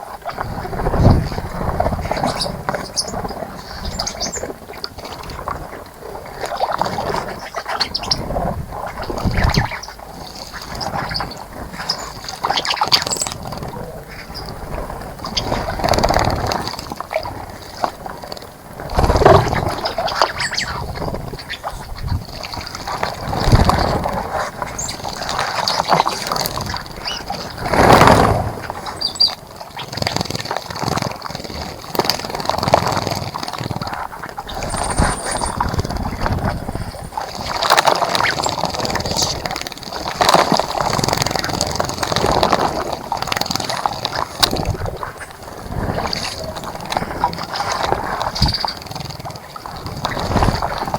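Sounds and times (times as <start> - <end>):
birds splashing water: 0.2 - 50.9.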